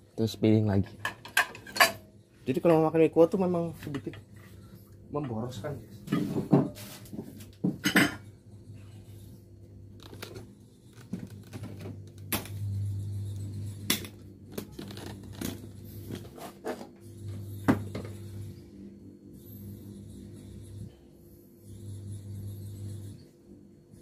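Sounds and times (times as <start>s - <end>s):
low mains hum: 0.0s - 24.0s.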